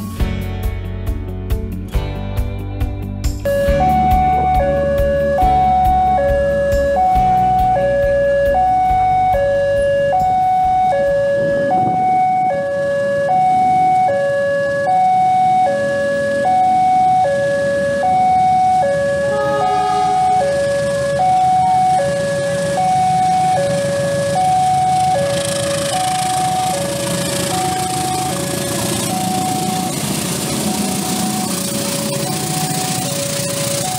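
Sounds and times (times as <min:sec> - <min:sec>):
low rumble of diesel locomotive: 0:03.5 - 0:33.9
two-tone level crossing alarm: 0:03.5 - 0:33.9.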